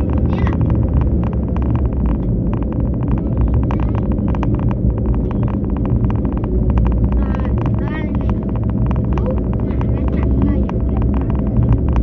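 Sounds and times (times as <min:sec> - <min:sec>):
rapid clicks and crackles: 0:00.0 - 0:12.0
vehicle road noise rumble: 0:00.0 - 0:12.0
wind on microphone: 0:00.0 - 0:12.0.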